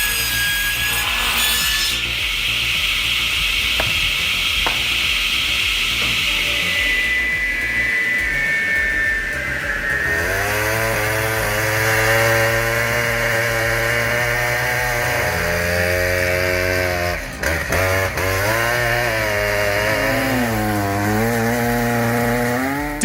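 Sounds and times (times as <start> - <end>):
chainsaw cutting: 0.0 - 23.0.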